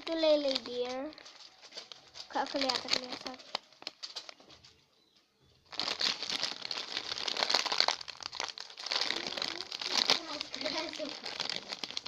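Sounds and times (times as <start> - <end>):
plastic wrapping crinkling: 0.0 - 4.8, 5.6 - 12.0.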